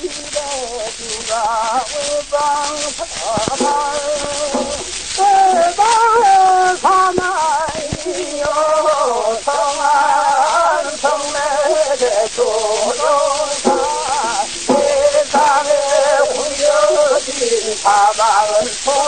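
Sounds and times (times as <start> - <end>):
man singing with vibrato: 0.0 - 19.0
record crackle and hiss: 0.0 - 19.0.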